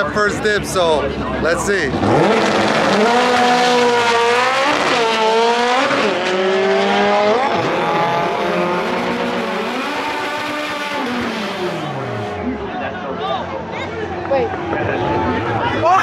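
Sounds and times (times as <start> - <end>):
drag cars accelerating hard: 1.1 - 16.0.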